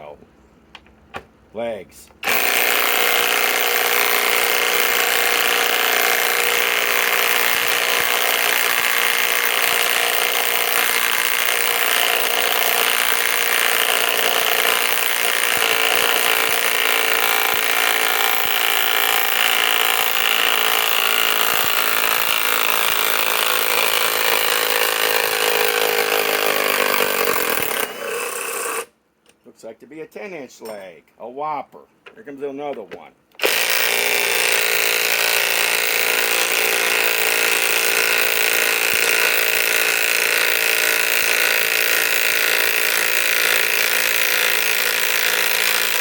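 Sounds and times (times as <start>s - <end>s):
impact wrench hammering: 2.2s - 28.9s, 32.8s - 46.0s.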